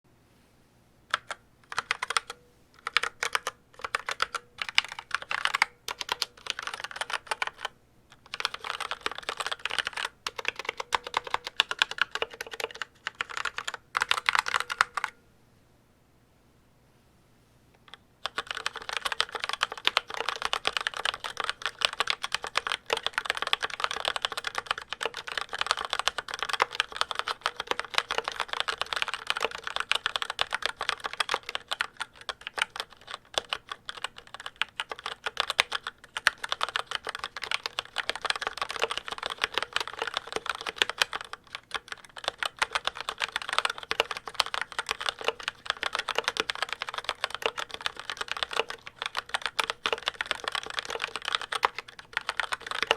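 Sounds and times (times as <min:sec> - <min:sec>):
fast mechanical keyboard typing: 0:01.1 - 0:15.2, 0:17.9 - 0:52.9.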